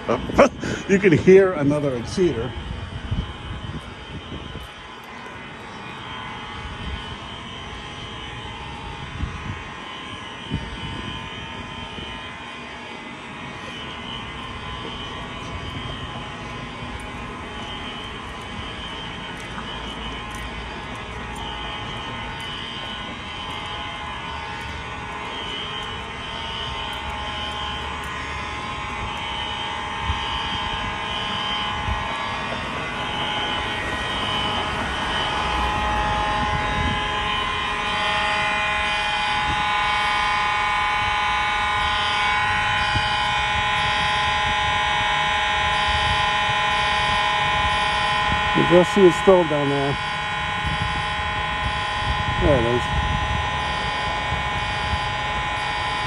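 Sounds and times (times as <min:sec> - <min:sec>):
fire alarm horns droning: 0:00.0 - 0:56.0
high pulsing alarm tone: 0:00.0 - 0:56.0.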